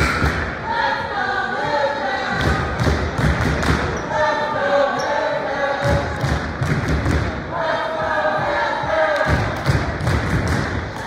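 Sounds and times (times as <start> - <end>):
voices shouting in echoing hall: 0.0 - 11.0.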